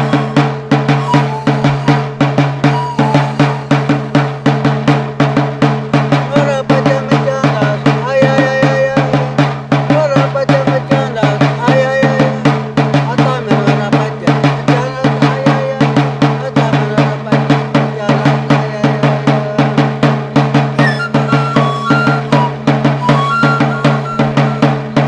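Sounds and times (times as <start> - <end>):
music with quick drumbeat: 0.0 - 25.0.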